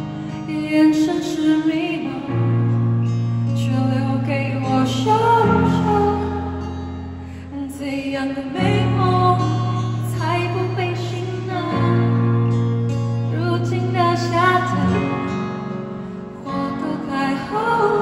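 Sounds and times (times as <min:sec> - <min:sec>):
acoustic guitar: 0:00.0 - 0:18.0
woman singing: 0:00.3 - 0:02.6, 0:03.5 - 0:12.3, 0:13.3 - 0:15.1, 0:16.4 - 0:18.0.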